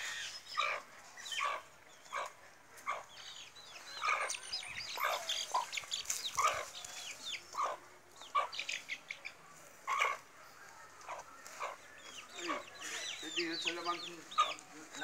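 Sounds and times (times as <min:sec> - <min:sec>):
chick peeping: 0:00.0 - 0:10.3, 0:11.0 - 0:15.0
hen clucking: 0:00.6 - 0:03.2, 0:03.9 - 0:10.3, 0:11.0 - 0:15.0.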